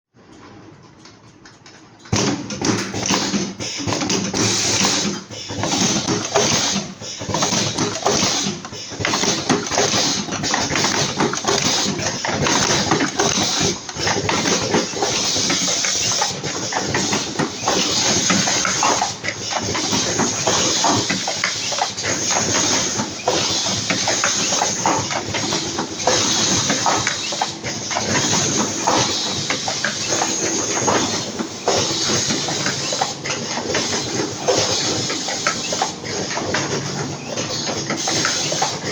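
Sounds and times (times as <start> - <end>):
cartoning machine clattering: 2.1 - 38.9.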